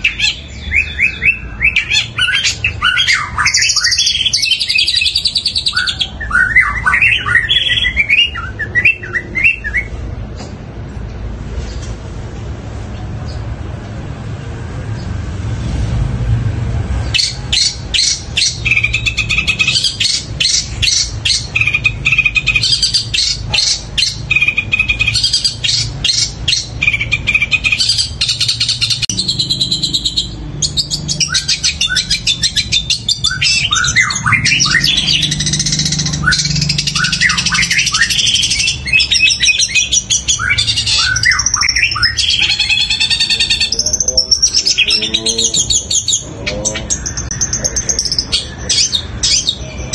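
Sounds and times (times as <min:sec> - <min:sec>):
shrike singing: 0:00.0 - 0:10.4, 0:17.0 - 0:49.9
mimicked sparrow calls: 0:00.0 - 0:10.6, 0:17.0 - 0:49.9.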